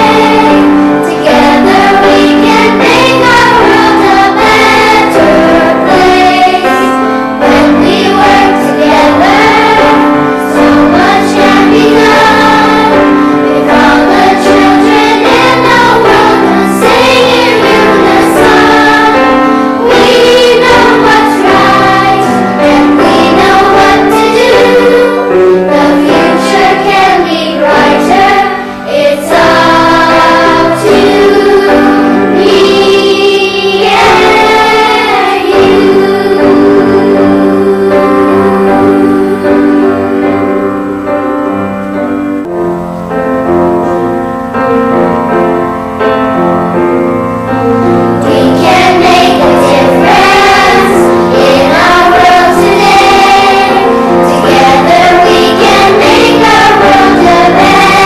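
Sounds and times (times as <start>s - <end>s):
choir singing: 0.0s - 41.3s, 47.0s - 58.0s.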